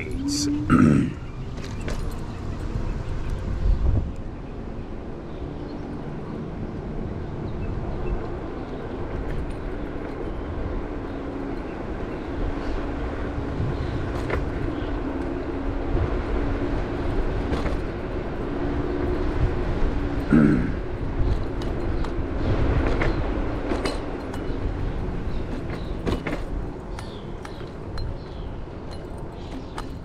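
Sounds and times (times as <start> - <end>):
road rumble: 0.0 - 30.0
wind buffeting microphone: 1.2 - 30.0.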